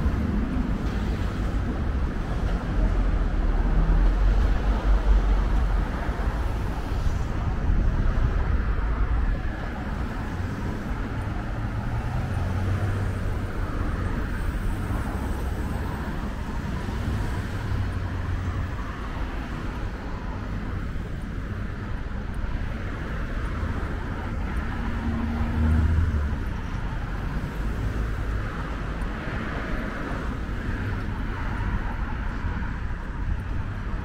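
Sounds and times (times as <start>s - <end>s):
street traffic passing: 0.0s - 34.0s.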